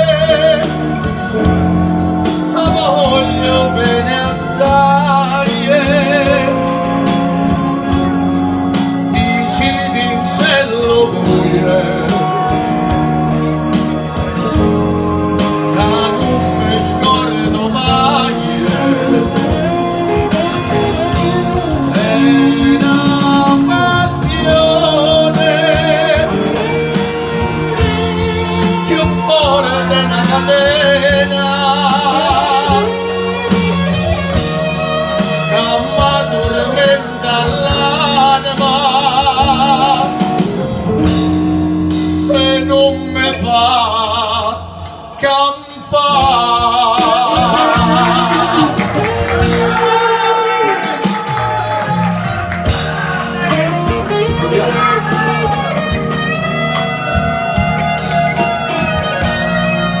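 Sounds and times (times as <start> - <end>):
man singing with vibrato: 0.0 - 51.8, 52.7 - 60.0
small band with guitar: 0.0 - 60.0.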